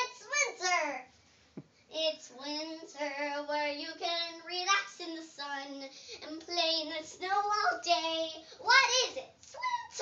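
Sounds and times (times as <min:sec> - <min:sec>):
girl singing: 0:01.9 - 0:10.0.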